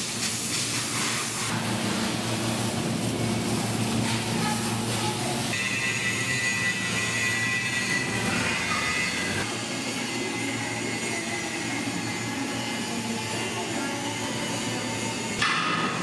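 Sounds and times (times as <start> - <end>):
machine drone in workshop: 0.0 - 16.0.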